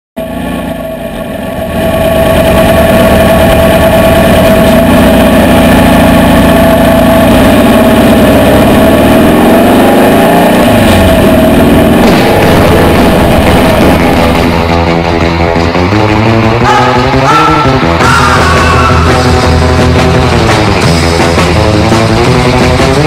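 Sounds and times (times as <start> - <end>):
buggy engine running: 0.2 - 23.0.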